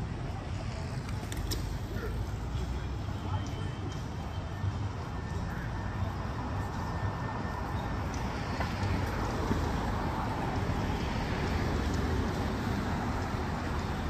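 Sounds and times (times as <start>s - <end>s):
cars running along road: 0.0s - 14.0s.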